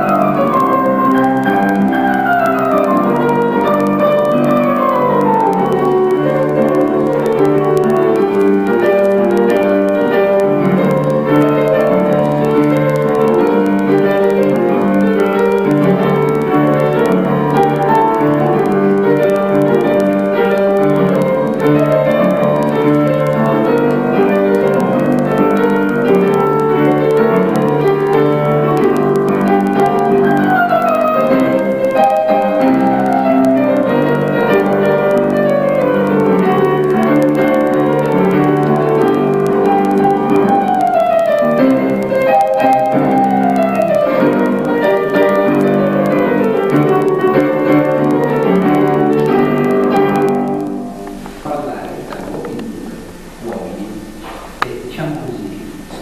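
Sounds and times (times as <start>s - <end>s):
tango ensemble with piano and strings: 0.0s - 53.0s.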